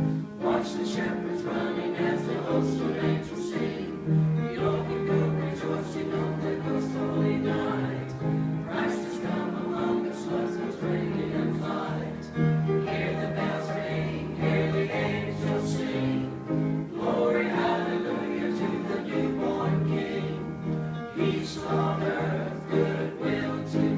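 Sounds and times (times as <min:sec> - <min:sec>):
church choir singing: 0:00.0 - 0:23.9.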